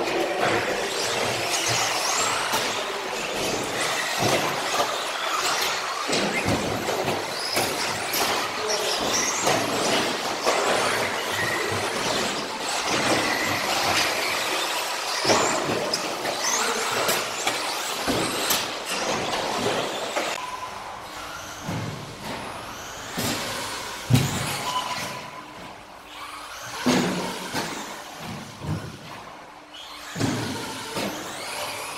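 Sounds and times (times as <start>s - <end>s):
toy car motor whine: 0.1s - 28.6s, 29.6s - 31.9s.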